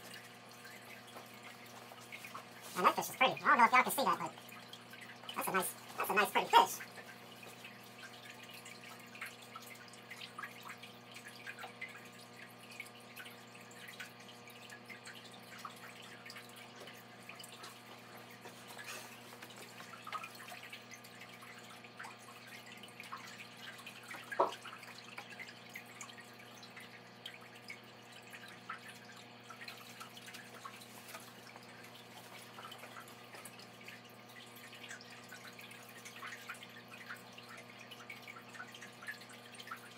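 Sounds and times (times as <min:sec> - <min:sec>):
water dripping and splashing: 0:00.0 - 0:39.9.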